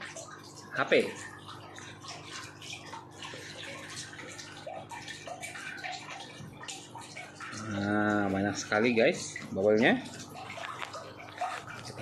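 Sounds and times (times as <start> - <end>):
water bubbling and churning: 0.0 - 12.0.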